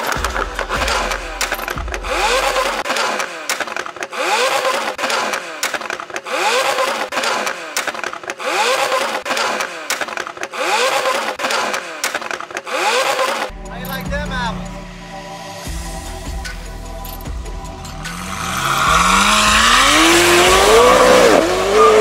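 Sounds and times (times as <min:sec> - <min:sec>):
exhaust pops and crackles: 0:00.0 - 0:14.8, 0:16.4 - 0:22.0
car engine revving: 0:00.0 - 0:22.0.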